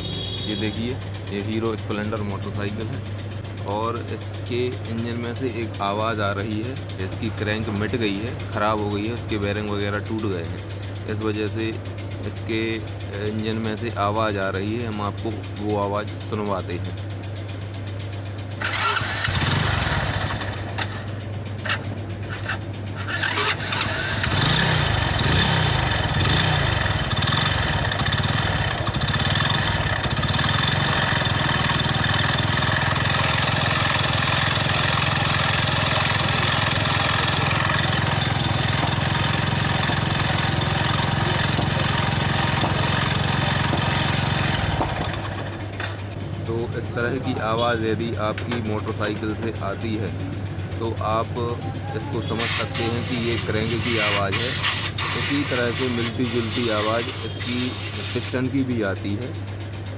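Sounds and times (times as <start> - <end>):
motorcycle engine starting and running: 0.0 - 59.9.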